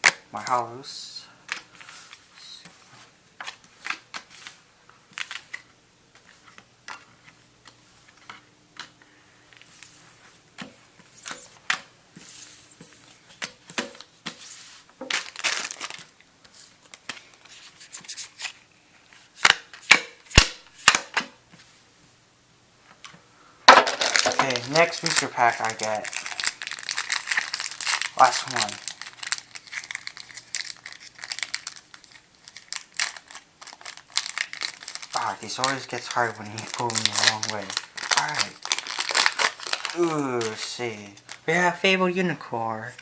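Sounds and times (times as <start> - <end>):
cards rustling: 1.5 - 19.9, 23.7 - 42.2.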